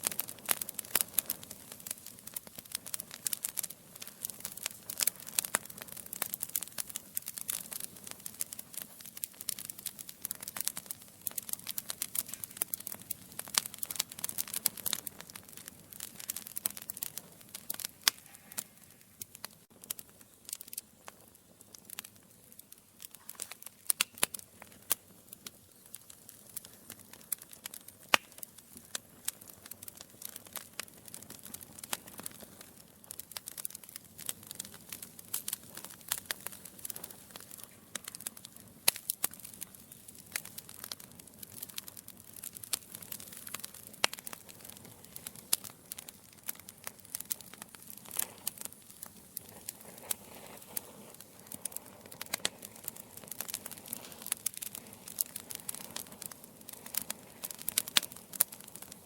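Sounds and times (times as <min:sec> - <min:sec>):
fire crackling and popping: 0:00.0 - 0:59.0
fire hissing: 0:00.0 - 0:59.0.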